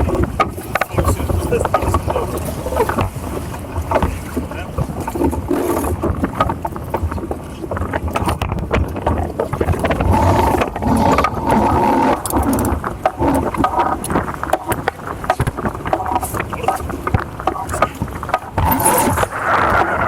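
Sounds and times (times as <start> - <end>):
water slapping against hulls: 0.0 - 20.0
wind rumble on microphone: 0.0 - 20.0.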